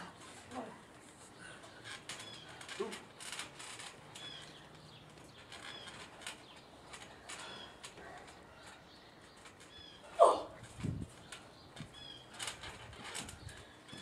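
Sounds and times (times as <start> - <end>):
wrestlers moving on trampoline: 0.0 - 14.0
small birds chirping: 0.2 - 14.0.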